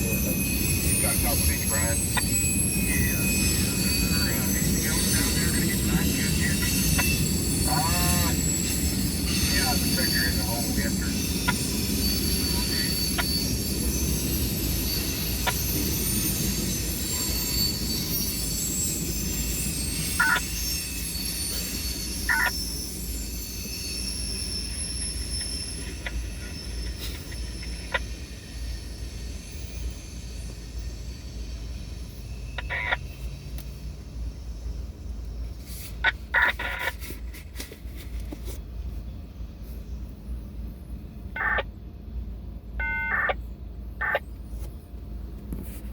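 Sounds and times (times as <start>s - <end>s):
freight train rumbling past: 0.0s - 42.8s.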